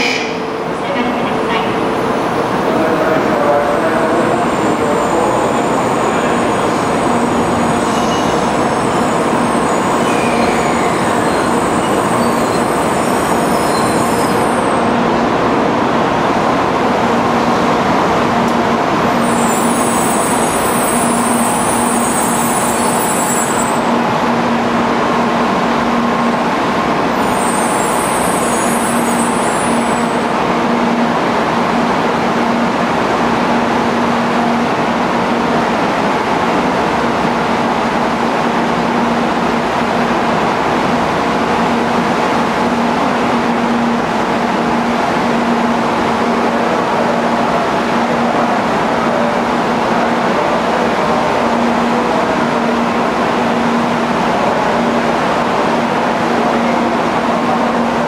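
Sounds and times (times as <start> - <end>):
train rolling noise: 0.0 - 58.0.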